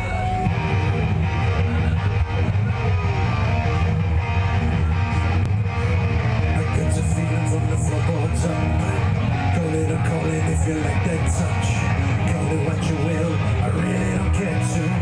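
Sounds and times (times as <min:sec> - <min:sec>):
heavy steady bass: 0:00.0 - 0:15.0
strummed electric guitar: 0:00.0 - 0:15.0.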